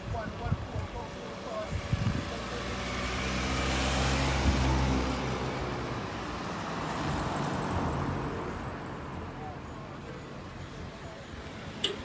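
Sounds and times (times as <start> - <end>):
cars driving past: 1.1 - 12.0.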